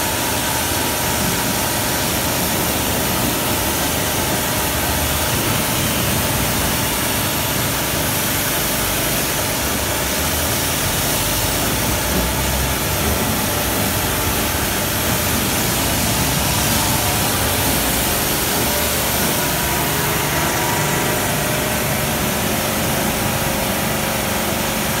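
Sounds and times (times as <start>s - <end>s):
pump motor humming: 0.0s - 25.0s
water jet spraying: 0.1s - 25.0s.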